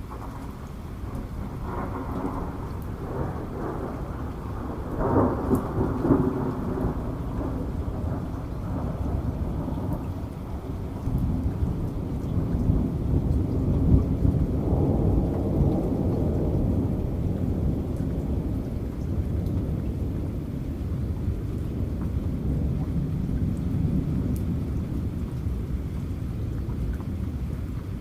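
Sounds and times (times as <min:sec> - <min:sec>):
rolling thunder: 0:00.0 - 0:27.3
steady rain: 0:00.0 - 0:28.0.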